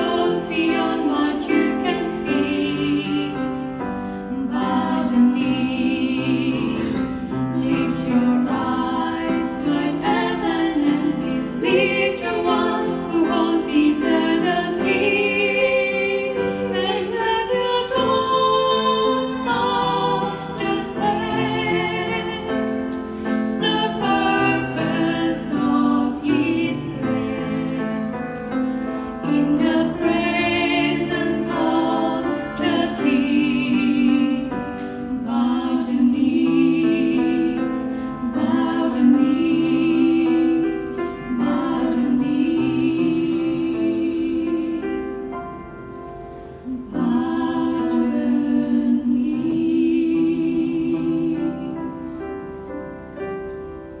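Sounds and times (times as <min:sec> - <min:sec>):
women singing worship song: 0:00.0 - 0:28.2, 0:28.9 - 0:45.3, 0:46.6 - 0:52.2.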